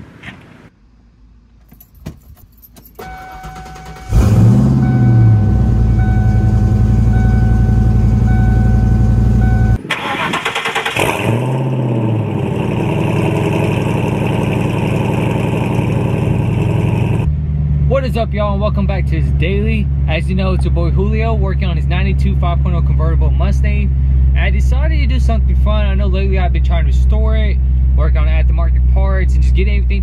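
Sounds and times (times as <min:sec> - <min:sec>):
car engine starting and idling: 0:01.6 - 0:30.0.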